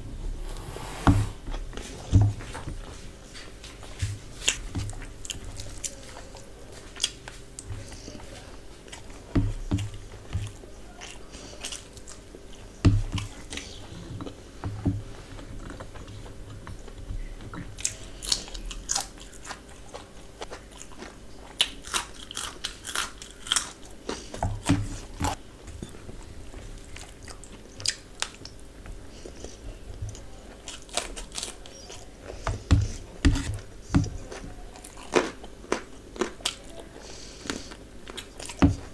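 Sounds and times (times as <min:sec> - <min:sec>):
person chewing crunchy food: 0:01.5 - 0:25.4, 0:26.0 - 0:38.9.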